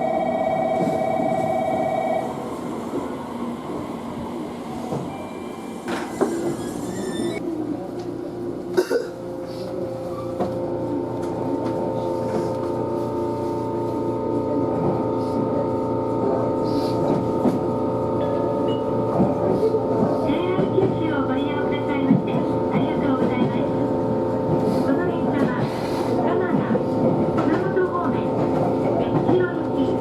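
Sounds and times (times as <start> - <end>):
train running on rails: 0.0 - 30.0.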